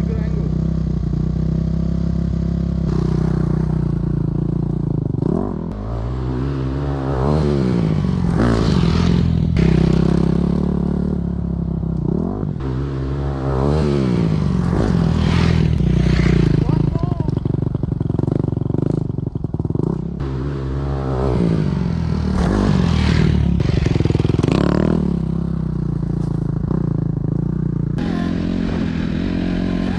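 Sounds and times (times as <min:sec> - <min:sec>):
dirt bike engine revving: 0:00.0 - 0:11.4, 0:12.0 - 0:29.9.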